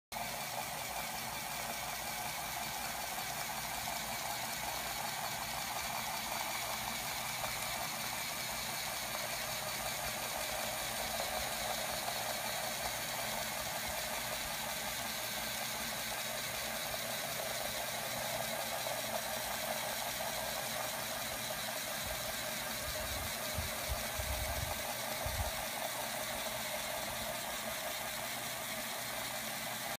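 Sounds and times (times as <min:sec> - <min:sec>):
small electric motor whirring: 0:00.2 - 0:30.0.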